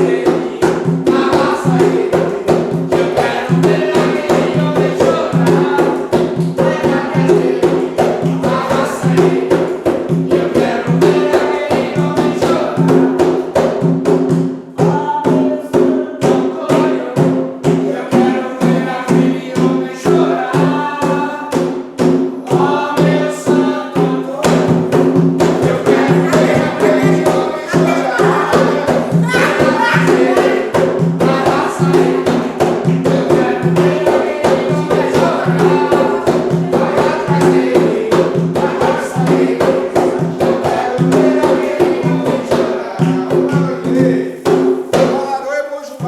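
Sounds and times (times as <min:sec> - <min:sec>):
fast hand drumming: 0:00.0 - 0:45.4
group chanting: 0:00.0 - 0:45.6.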